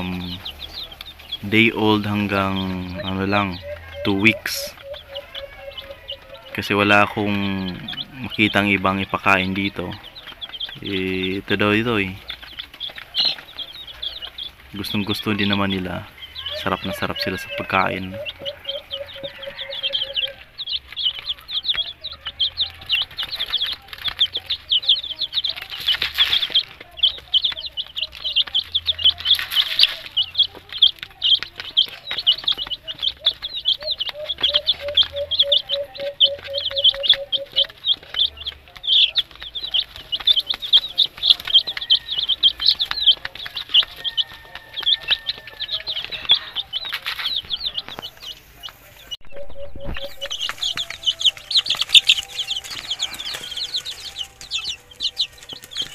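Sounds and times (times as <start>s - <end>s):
chicks peeping: 0.0s - 55.9s.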